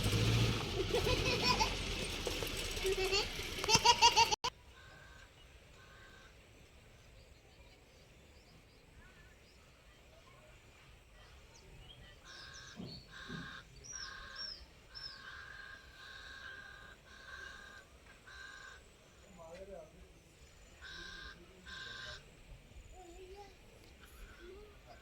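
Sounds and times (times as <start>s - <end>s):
faint birds calling: 0.8s - 25.0s.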